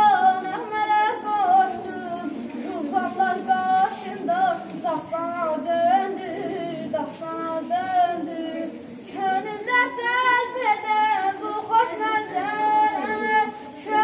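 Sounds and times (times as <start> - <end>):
boy singing: 0.0 - 14.0.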